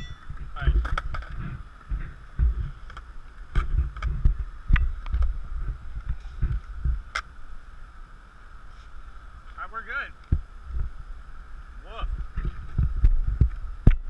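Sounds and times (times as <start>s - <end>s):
wind buffeting microphone: 0.0s - 8.0s, 10.2s - 14.0s.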